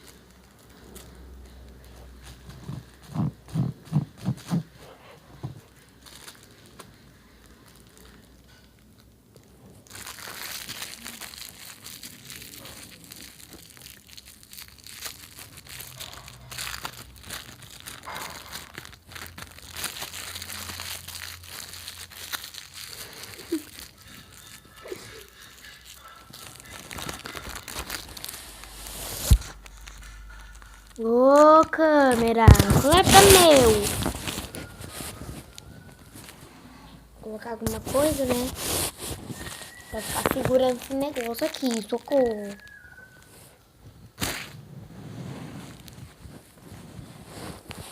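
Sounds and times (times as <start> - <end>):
food wrappers crinkling: 0.0 - 4.8, 5.4 - 36.5, 37.2 - 44.6, 45.7 - 47.9.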